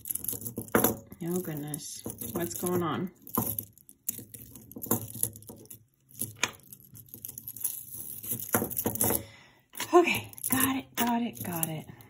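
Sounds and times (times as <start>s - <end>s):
metal chains clinking: 0.0s - 12.0s.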